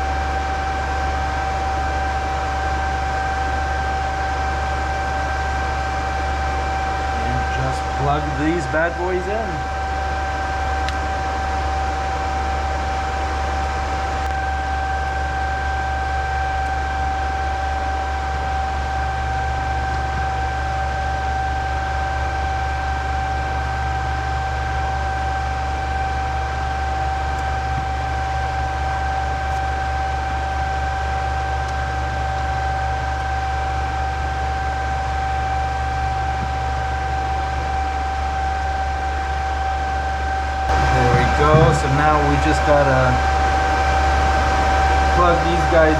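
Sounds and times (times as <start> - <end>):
cooling fans whirring: 0.0 - 45.9
high-pitched whine: 0.0 - 45.9.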